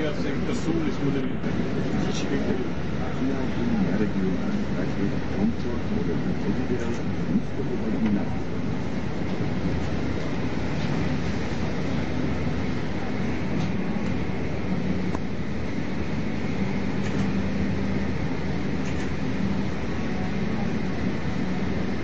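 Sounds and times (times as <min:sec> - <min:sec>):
low hum: 0:00.0 - 0:22.0
train wheels rumbling: 0:00.0 - 0:22.0.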